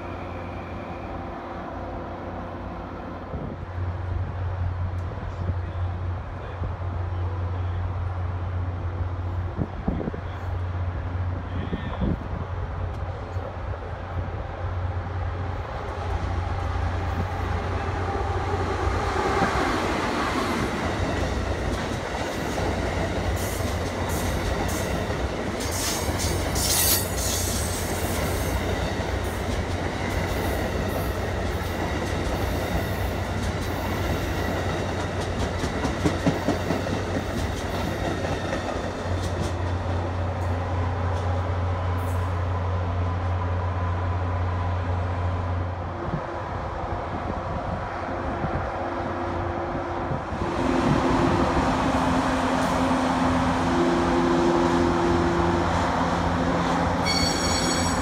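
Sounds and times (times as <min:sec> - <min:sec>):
train wheels rumbling on rails: 0:02.6 - 0:58.0.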